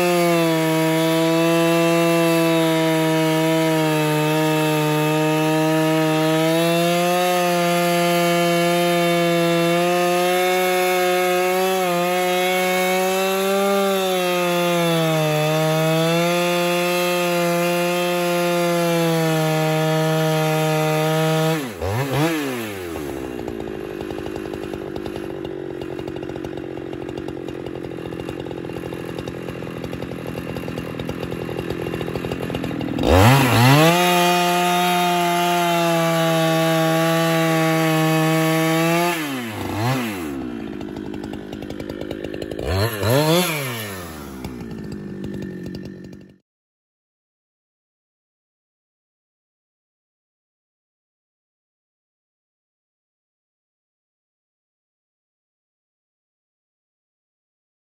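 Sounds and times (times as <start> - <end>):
chainsaw cutting log: 0.0 - 46.4.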